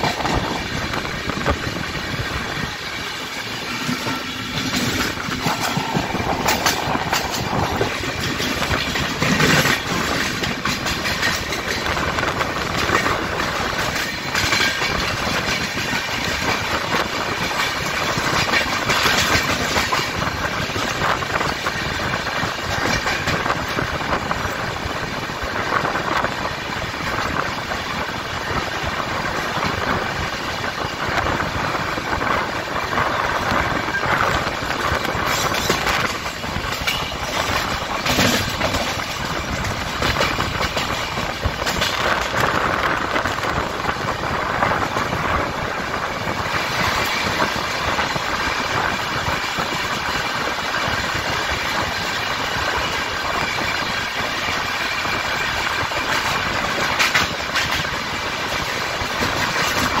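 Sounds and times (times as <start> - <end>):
train wheels rumbling on track: 0.0 - 60.0
wind: 0.0 - 60.0.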